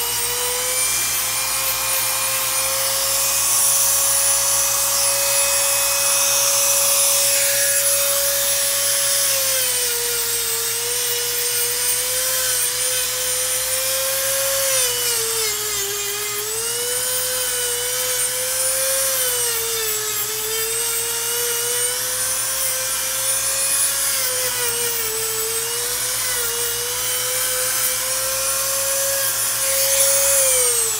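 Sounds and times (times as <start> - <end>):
rotary tool motor whine: 0.0 - 30.9.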